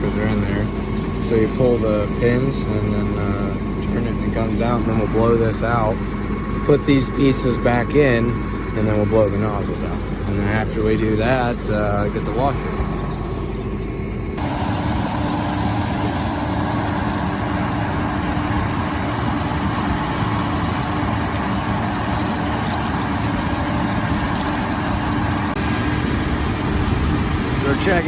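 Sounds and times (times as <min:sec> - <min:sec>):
sprayer hiss with hum: 0:00.0 - 0:13.5, 0:14.4 - 0:28.0
engine running steadily: 0:00.0 - 0:28.0.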